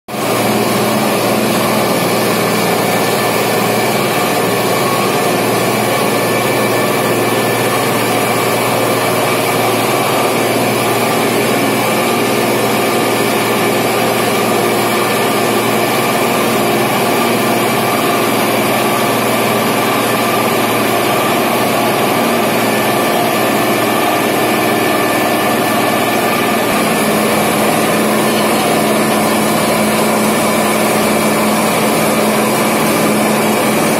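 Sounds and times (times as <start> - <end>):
machine mechanical drone: 0.2 - 33.9.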